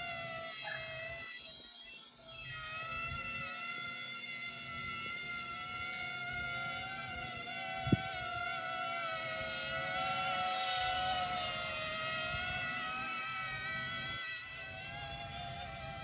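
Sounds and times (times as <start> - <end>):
model aircraft motor droning: 0.0 - 16.0.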